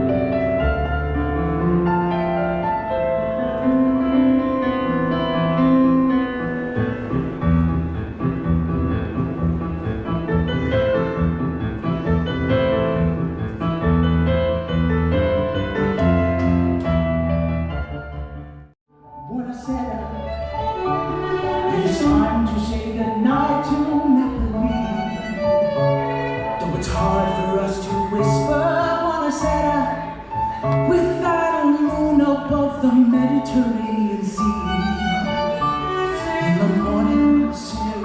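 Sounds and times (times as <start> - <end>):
piano playing: 0.0 - 38.0.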